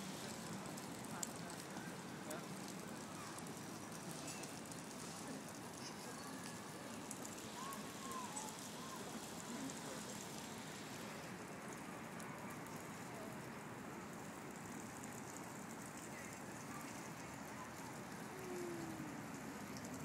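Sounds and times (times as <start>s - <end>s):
distant traffic hiss: 0.0s - 20.0s.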